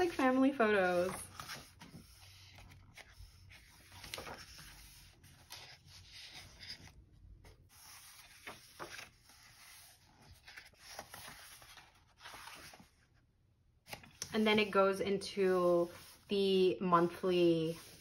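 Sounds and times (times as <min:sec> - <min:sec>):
paper pages being turned: 0:00.0 - 0:13.0, 0:13.8 - 0:14.7, 0:17.0 - 0:18.0.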